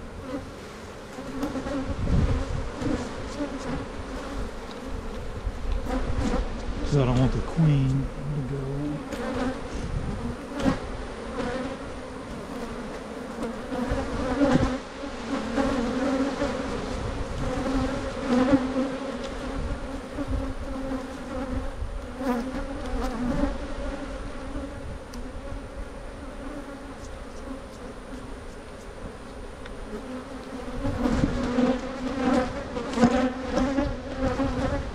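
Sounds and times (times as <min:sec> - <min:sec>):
bees buzzing: 0:00.0 - 0:34.9.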